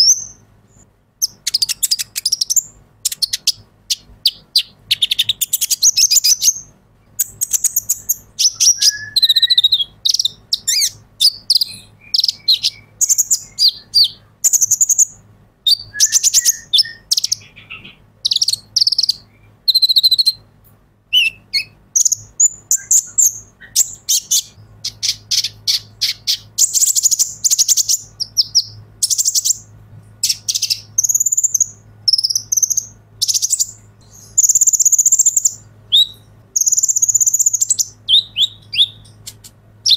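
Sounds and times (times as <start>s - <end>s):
sunbird chirping and trilling: 0.0s - 20.5s, 21.1s - 39.9s.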